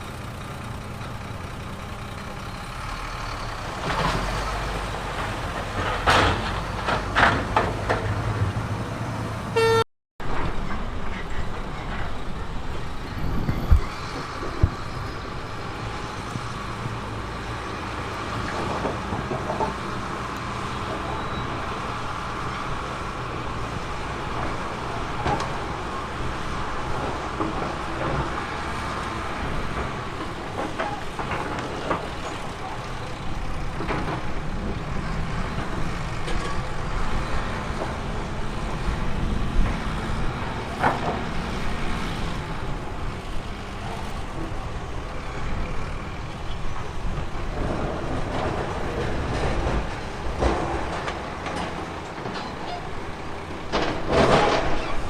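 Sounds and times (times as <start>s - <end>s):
diesel construction machinery running: 0.0s - 55.0s.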